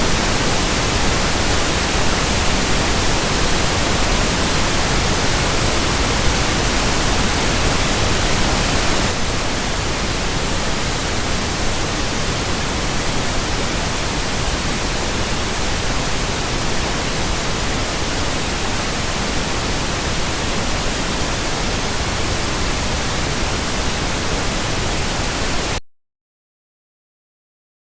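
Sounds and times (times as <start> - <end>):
pink noise hiss: 0.0 - 25.8.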